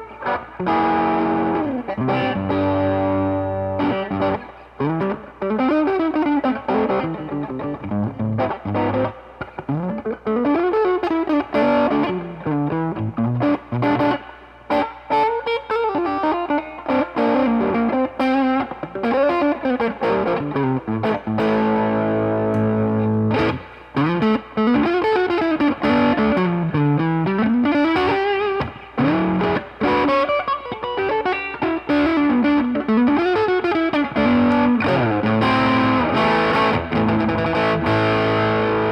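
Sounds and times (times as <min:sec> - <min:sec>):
electric guitar chord: 0:00.0 - 0:38.9.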